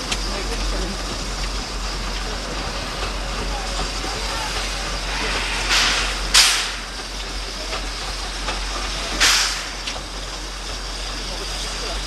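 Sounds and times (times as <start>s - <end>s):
loud bursts of steam: 0.0s - 12.0s
steam locomotive hissing: 0.0s - 12.0s.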